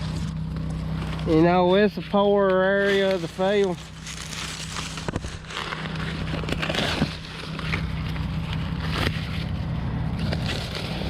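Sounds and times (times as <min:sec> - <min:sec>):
low engine drone: 0:00.0 - 0:11.0
rushing of crop and machinery: 0:00.0 - 0:11.0.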